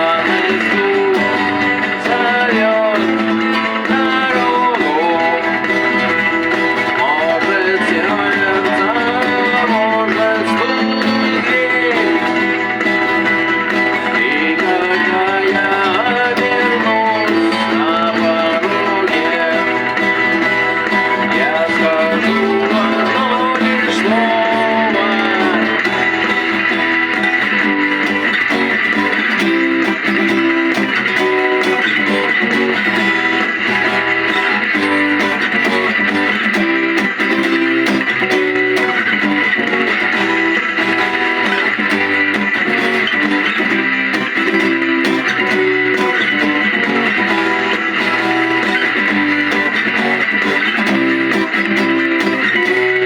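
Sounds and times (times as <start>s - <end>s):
bass guitar: 0.0s - 53.0s
lead electric guitar bending notes: 0.0s - 53.0s
strummed rhythm guitar: 0.0s - 53.0s.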